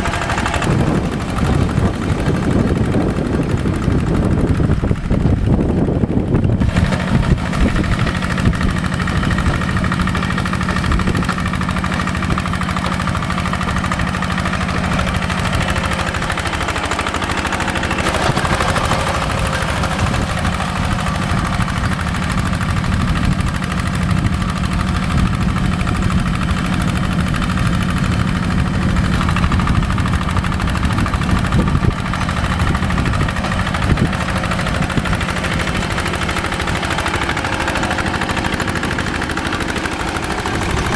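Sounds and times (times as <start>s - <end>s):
tractor diesel engine chugging: 0.0s - 40.9s.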